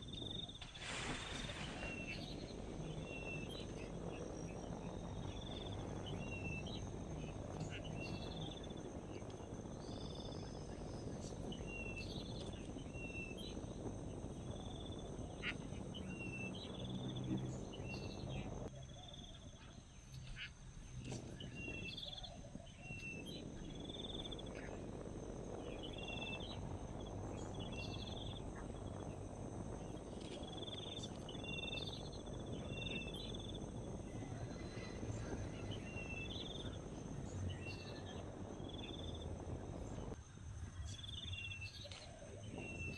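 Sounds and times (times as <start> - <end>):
insects droning: 0.0 - 42.9
low background noise: 0.0 - 42.9.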